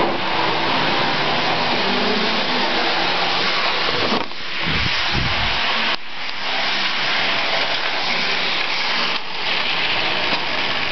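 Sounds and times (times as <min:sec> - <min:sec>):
model train motor whirring: 0:00.0 - 0:10.9
wheels on rails: 0:00.0 - 0:10.9.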